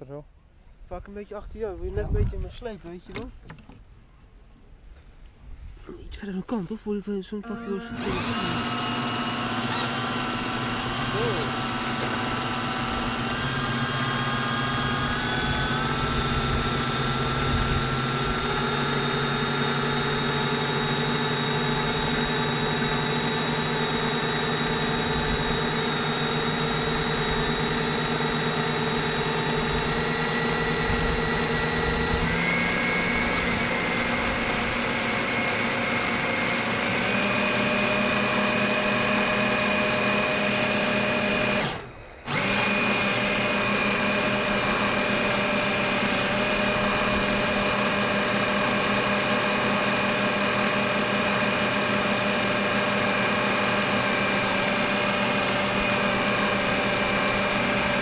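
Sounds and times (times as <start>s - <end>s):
electric motor whine: 7.3s - 58.0s.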